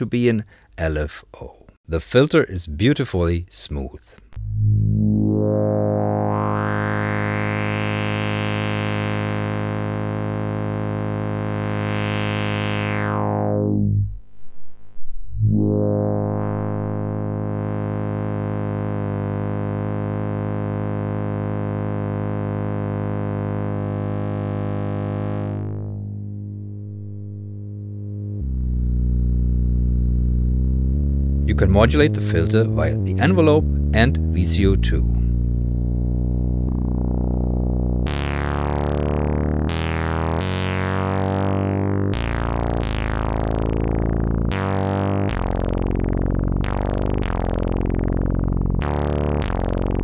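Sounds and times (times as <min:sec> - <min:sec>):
synthesizer low note filter sweep: 0:04.2 - 0:50.0.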